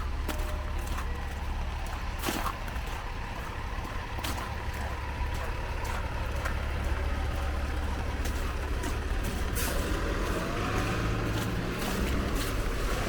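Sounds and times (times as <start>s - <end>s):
traffic on a wet road: 0.0s - 13.0s.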